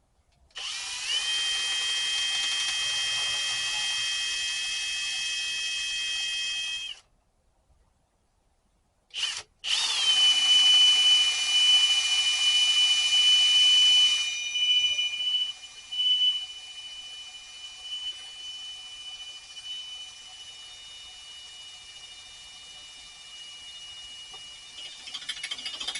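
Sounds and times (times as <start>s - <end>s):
drill trigger pull: 0.5s - 7.0s, 9.1s - 25.9s
electric drill whining: 0.6s - 7.0s, 9.1s - 25.9s.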